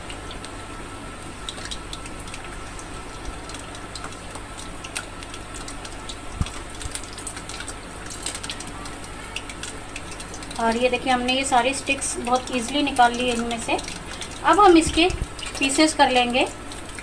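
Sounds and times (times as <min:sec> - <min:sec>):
food sizzling in hot oil: 0:01.5 - 0:17.0.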